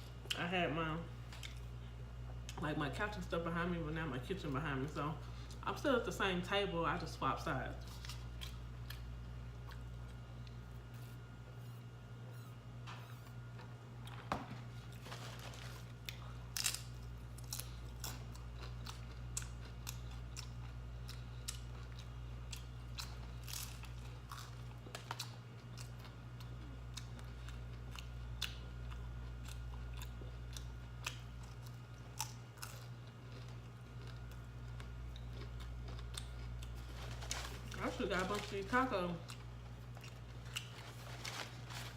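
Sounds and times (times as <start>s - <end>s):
person chewing and crunching: 1.3s - 2.6s, 7.8s - 12.4s, 13.1s - 41.9s.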